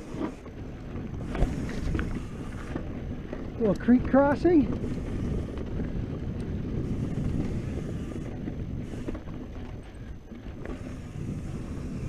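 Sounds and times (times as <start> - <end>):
bike tyres rumbling over dirt: 0.0 - 12.0
faint bike clicks: 0.0 - 12.0
wind buffeting microphone: 0.0 - 12.0.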